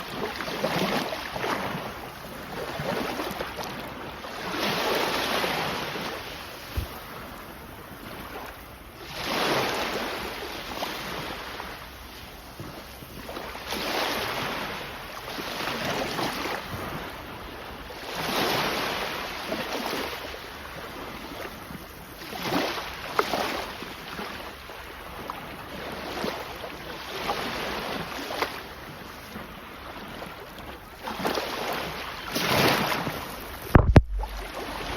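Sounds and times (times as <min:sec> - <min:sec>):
sea waves breaking on shore: 0:00.0 - 0:34.9.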